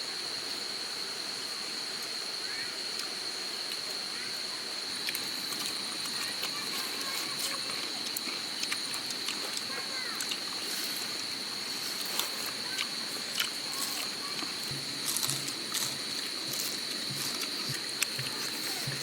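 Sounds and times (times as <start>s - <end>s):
high-pitched insect drone: 0.8s - 19.0s.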